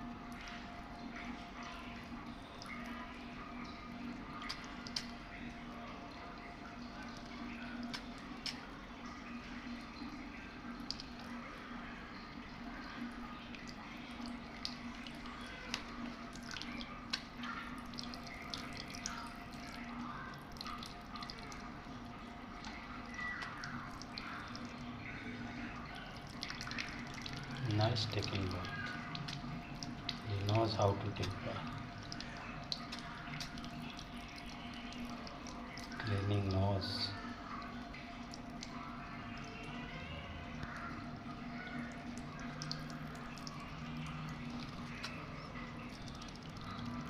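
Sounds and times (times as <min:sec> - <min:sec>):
water dripping and splashing: 0:00.0 - 0:47.0.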